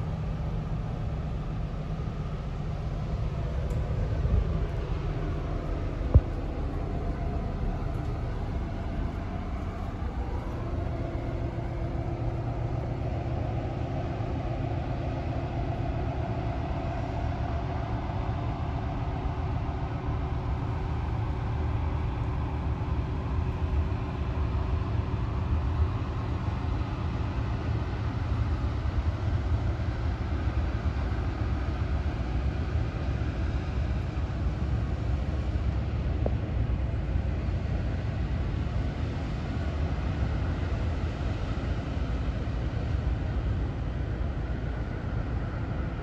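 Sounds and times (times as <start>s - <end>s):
ship engine low rumble: 0.0s - 46.0s.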